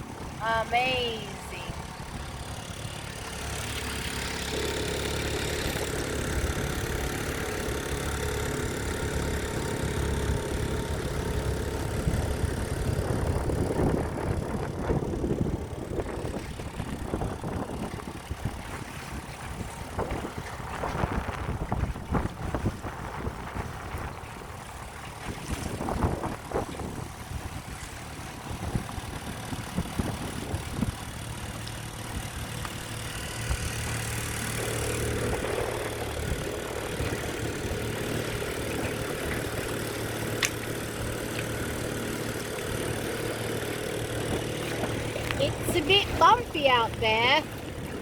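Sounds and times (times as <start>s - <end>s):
outboard motor running: 0.0s - 48.0s
water and wind noise: 0.0s - 48.0s.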